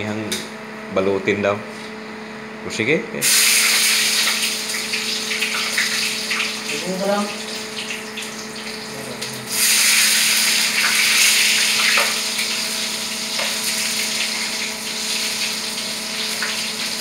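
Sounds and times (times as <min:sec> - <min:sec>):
food sizzling in hot oil: 0:03.2 - 0:17.0.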